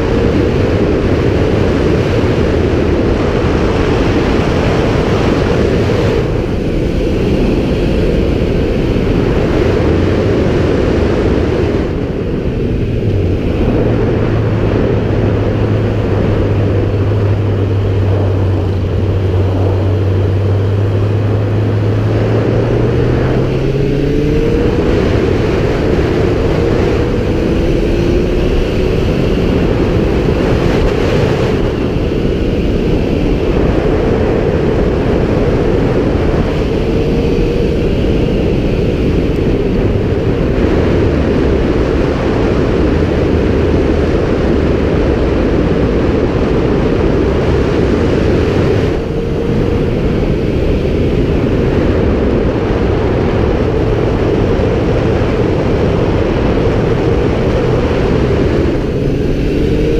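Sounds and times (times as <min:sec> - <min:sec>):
motorcycle engine accelerating: 0:00.0 - 0:59.9
wind rush over microphone: 0:00.0 - 0:59.9.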